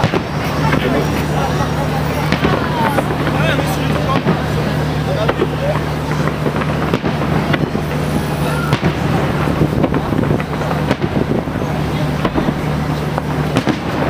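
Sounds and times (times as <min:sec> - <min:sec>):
crowd voices: 0:00.0 - 0:14.0
fireworks bangs and crackles: 0:00.0 - 0:14.0.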